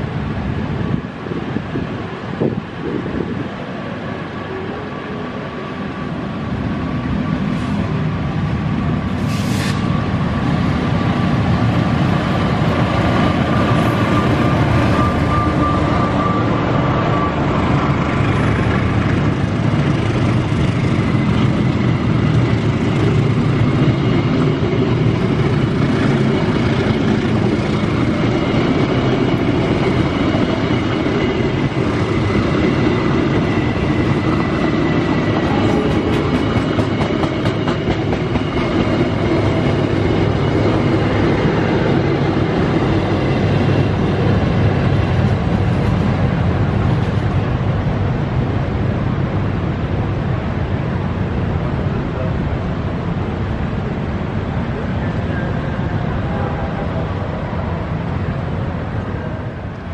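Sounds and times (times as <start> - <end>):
diesel train passing: 0.0 - 59.9.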